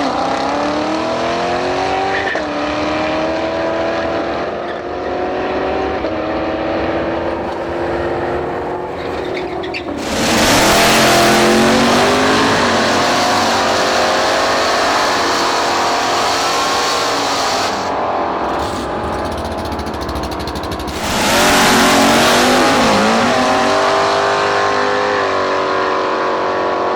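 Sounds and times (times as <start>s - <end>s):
race car engine revving: 0.0s - 26.9s.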